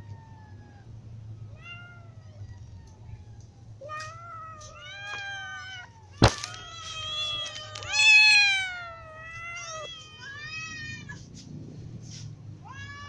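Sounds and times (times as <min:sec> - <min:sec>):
cats meowing: 0:00.0 - 0:11.4, 0:12.6 - 0:13.0.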